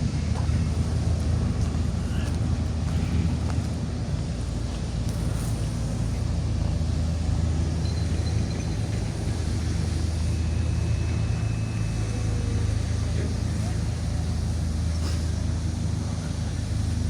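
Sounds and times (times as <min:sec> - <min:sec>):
engine low drone: 0:00.0 - 0:17.0.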